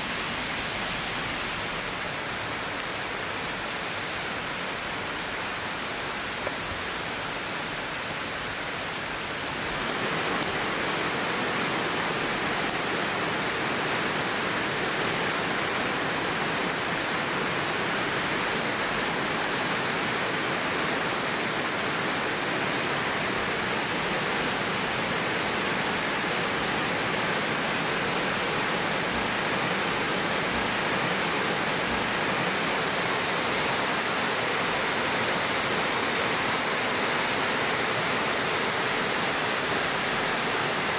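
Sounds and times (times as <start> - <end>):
forest stream and waterfall rushing: 0.0 - 40.9.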